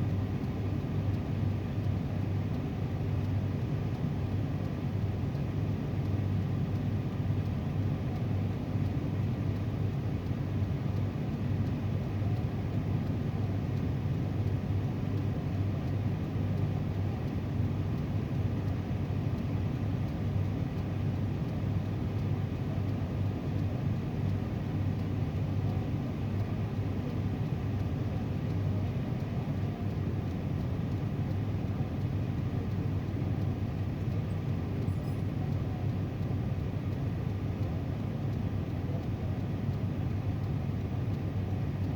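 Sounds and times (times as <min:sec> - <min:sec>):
car engine low rumble: 0:00.0 - 0:41.9.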